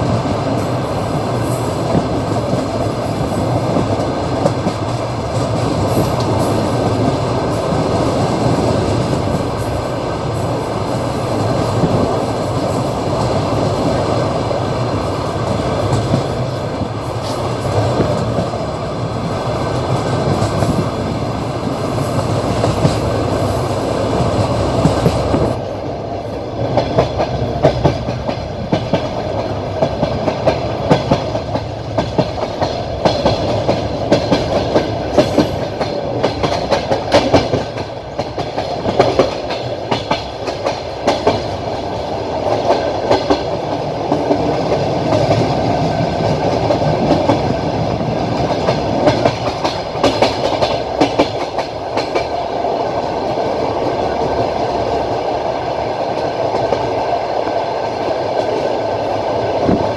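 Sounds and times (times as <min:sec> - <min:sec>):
train running rumble: 0:00.0 - 0:59.9
train wheels clacking on rails: 0:00.0 - 0:59.9.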